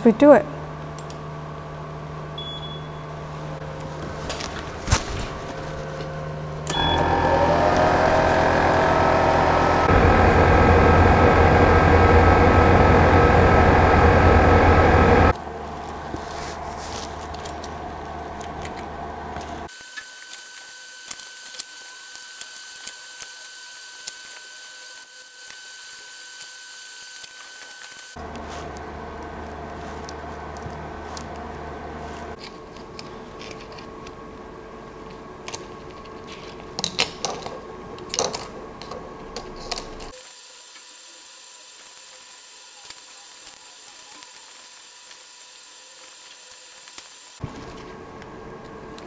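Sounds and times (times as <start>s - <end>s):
fans whining and humming: 0.0s - 49.0s.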